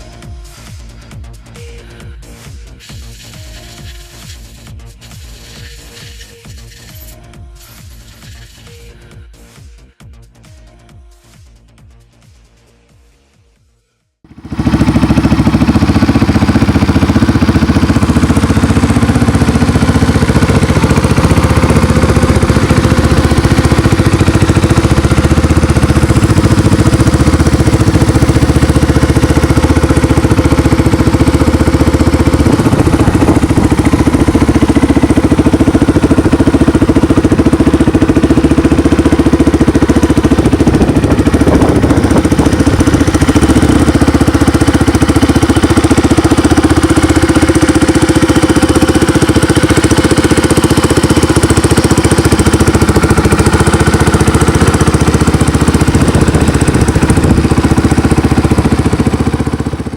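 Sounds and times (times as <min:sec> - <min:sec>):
quad engine running: 0:00.0 - 0:09.4, 0:14.3 - 0:59.9.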